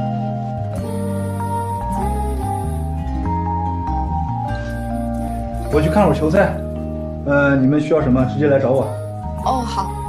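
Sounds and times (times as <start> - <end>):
soft gentle background music: 0.0 - 10.0.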